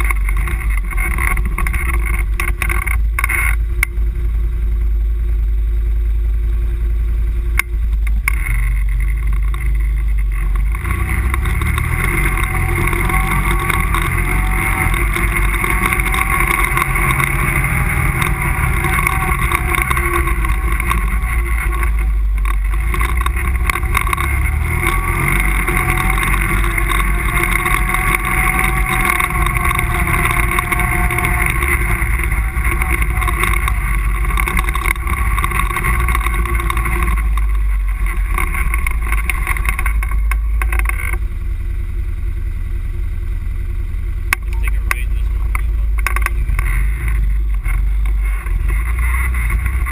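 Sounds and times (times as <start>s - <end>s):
quad bike engine running: 0.0s - 49.9s.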